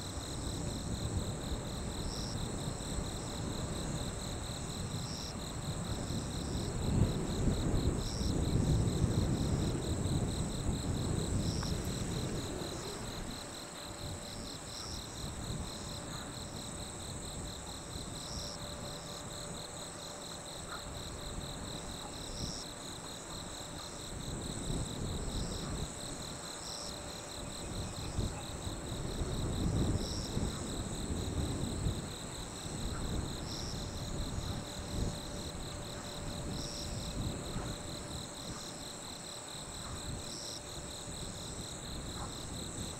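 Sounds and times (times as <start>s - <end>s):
night insects trilling: 0.0s - 42.9s.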